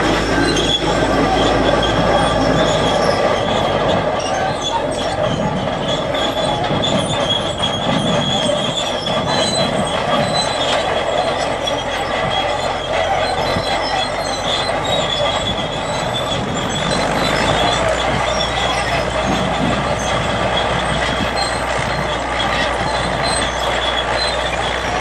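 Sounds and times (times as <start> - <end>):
tracks squealing: 0.0 - 25.0
tractor engine running: 0.0 - 25.0.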